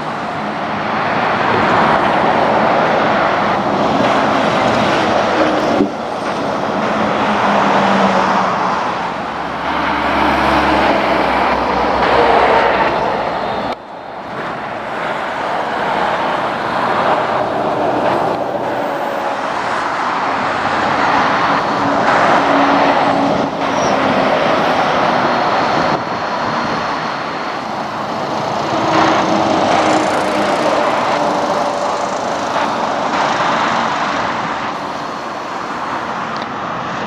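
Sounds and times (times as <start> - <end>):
diesel engines: 0.0 - 37.0
trucks passing: 0.0 - 37.0.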